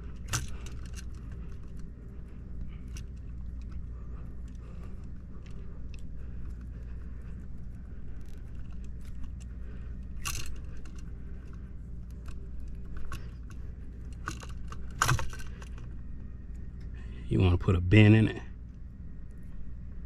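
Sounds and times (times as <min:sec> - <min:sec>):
electrical wires rustling: 0:00.0 - 0:16.9
steady low hum: 0:00.0 - 0:20.0.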